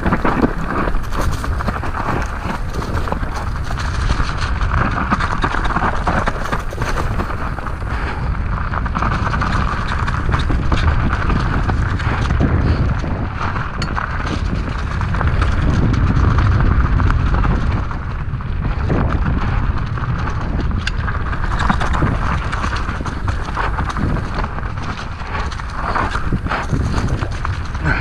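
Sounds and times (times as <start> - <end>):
bike clicks and rattles: 0.0 - 28.0
tyres rolling over leaves and dirt: 0.0 - 28.0
wind rumble on microphone: 0.0 - 28.0.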